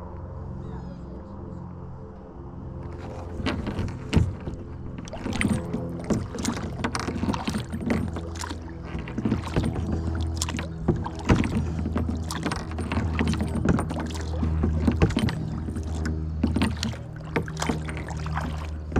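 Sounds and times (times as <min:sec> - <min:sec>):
low hum: 0:00.0 - 0:18.9
paddle splashing in water: 0:02.8 - 0:18.9.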